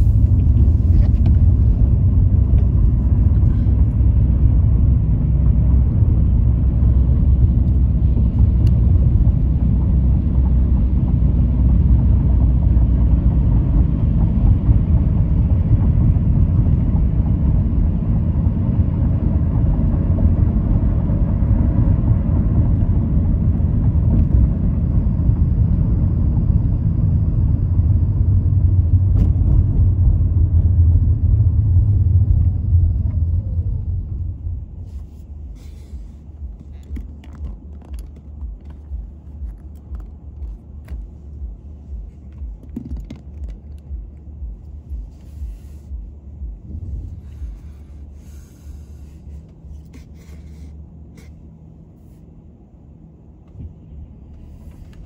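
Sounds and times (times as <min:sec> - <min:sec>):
car road and engine rumble: 0:00.0 - 0:55.0
low hum with faint ticks: 0:00.0 - 0:55.0.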